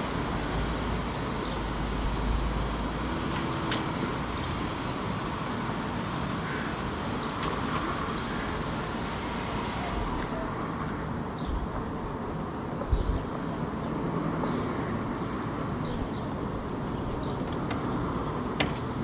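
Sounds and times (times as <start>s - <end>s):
distant road traffic hum: 0.0s - 19.0s.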